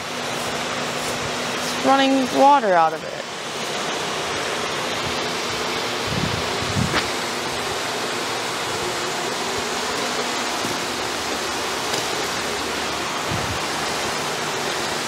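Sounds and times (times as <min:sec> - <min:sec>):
water rushing from outlet: 0:00.0 - 0:15.0.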